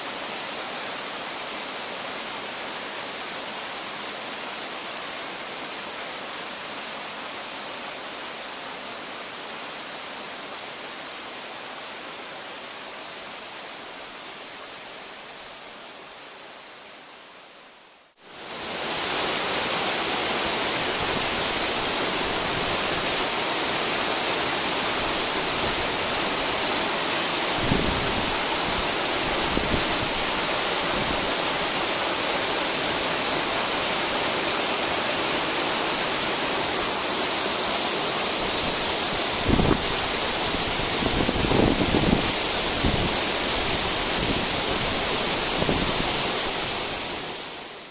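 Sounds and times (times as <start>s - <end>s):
waterfall roaring: 0.0s - 16.2s, 18.2s - 47.9s.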